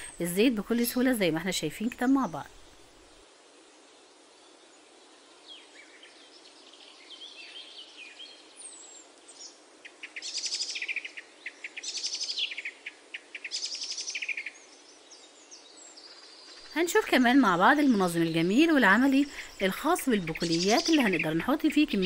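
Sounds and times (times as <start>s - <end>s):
faint steady hiss: 0.0s - 22.0s
songbirds chirping and trilling: 0.0s - 22.0s.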